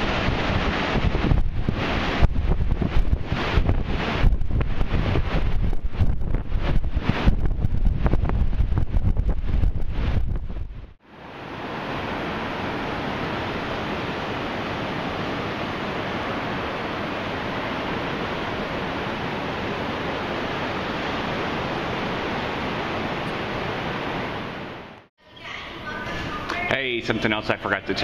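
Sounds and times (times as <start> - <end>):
ocean surf rushing: 0.0 - 25.1.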